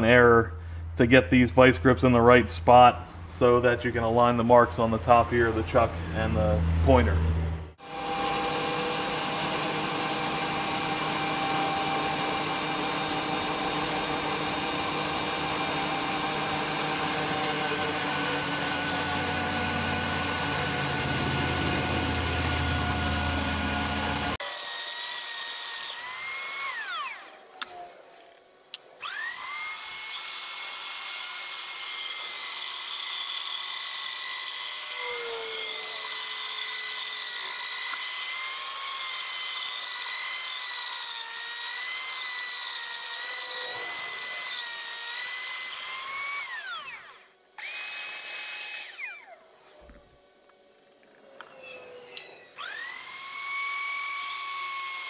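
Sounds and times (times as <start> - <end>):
rotary grinder whining: 7.8 - 27.5, 29.0 - 49.4, 50.9 - 55.0.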